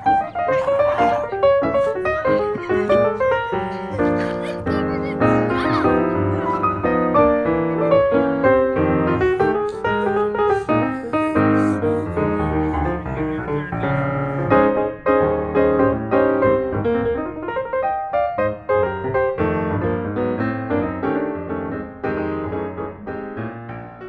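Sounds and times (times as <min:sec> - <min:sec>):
piano playing runs and chords: 0:00.0 - 0:24.0.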